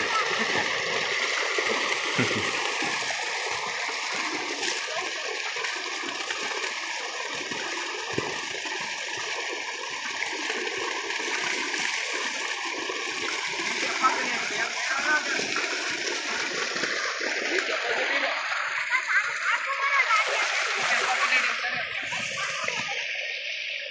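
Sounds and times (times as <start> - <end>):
water pouring from outlet pipes: 0.0 - 23.2
water gushing into tank: 0.0 - 23.7.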